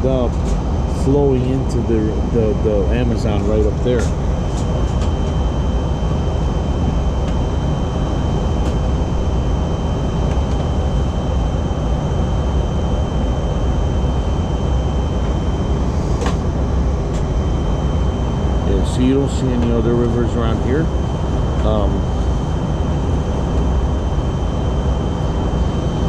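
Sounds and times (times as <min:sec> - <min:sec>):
airliner cabin engine rumble: 0:00.0 - 0:26.0
faint high whine: 0:00.0 - 0:26.0.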